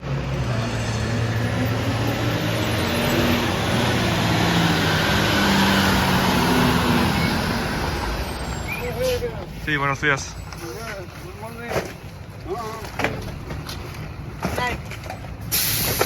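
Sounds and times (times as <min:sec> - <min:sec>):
garbage truck diesel engine: 0:00.0 - 0:16.0.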